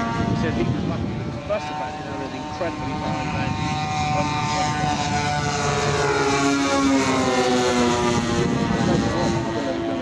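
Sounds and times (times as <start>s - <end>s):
model plane engines droning: 0.0s - 10.0s.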